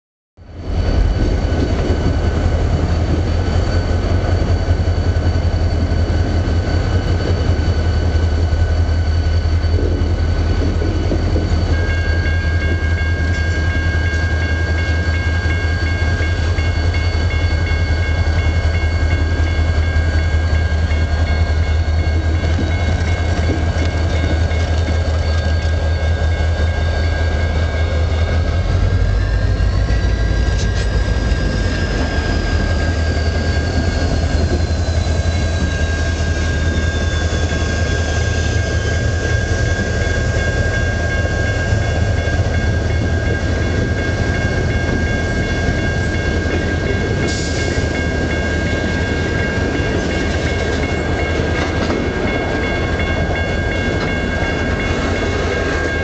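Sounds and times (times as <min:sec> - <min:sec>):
diesel locomotive engines rumbling: 0:00.4 - 0:56.0
high-pitched whine: 0:00.4 - 0:56.0.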